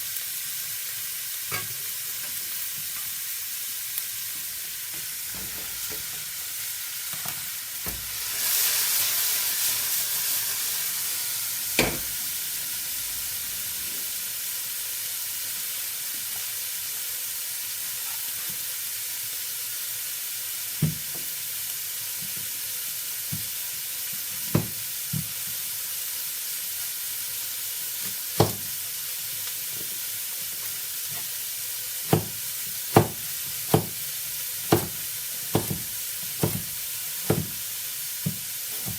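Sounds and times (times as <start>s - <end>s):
vegetables sizzling in a pan: 0.0s - 38.9s.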